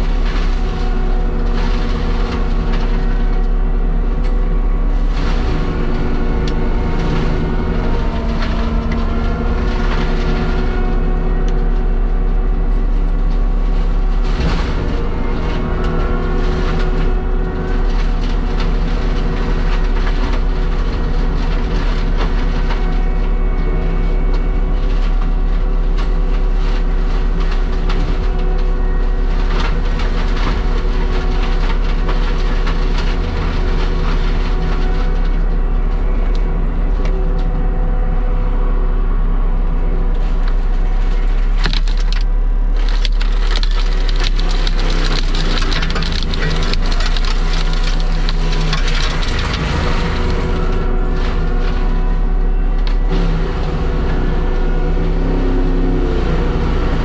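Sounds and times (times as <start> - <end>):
wood cracking and splintering: 0.0 - 38.8, 39.5 - 57.0
heavy diesel machine running: 0.0 - 57.0.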